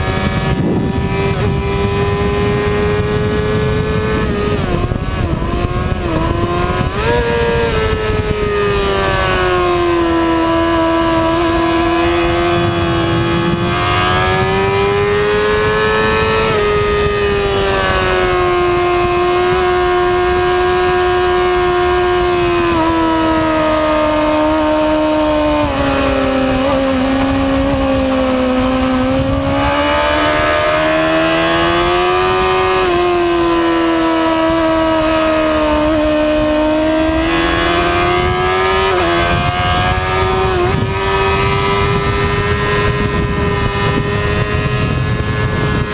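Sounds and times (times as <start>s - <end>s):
motorcycle engine at high revs: 0.0s - 45.9s
wind rushing over microphone: 0.0s - 45.9s.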